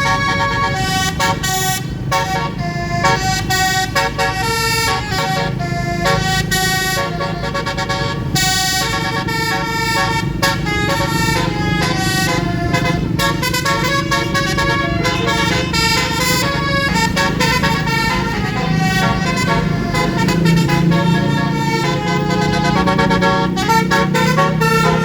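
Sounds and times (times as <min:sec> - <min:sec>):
low vehicle rumble: 0:00.0 - 0:25.0
musical horn playing tune: 0:00.0 - 0:25.0.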